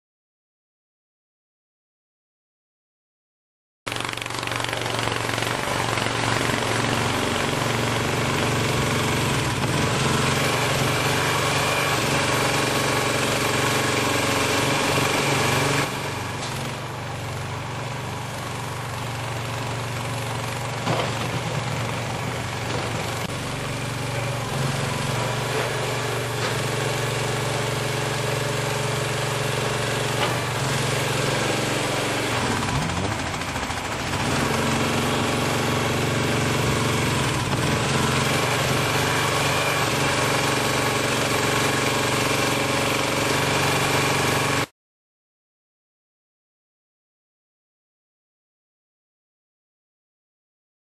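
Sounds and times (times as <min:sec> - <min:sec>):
skid steer loader engine running: 0:03.9 - 0:44.7.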